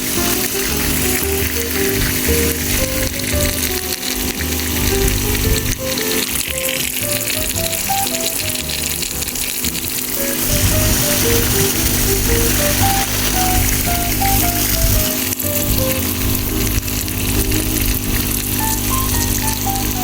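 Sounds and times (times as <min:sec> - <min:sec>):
simple melody with bass line: 0:00.0 - 0:20.0
steady hiss: 0:00.0 - 0:20.0.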